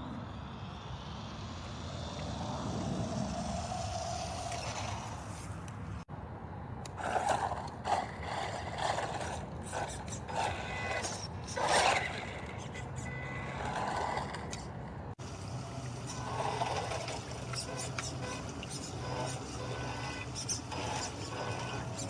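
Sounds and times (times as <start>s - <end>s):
rc truck motor and tyres: 0.0s - 22.0s.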